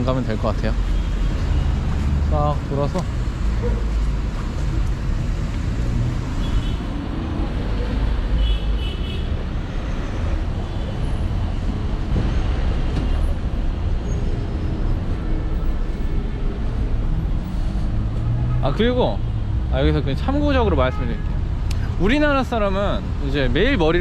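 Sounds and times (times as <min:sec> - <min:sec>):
rumble of passing traffic: 0:00.0 - 0:24.0.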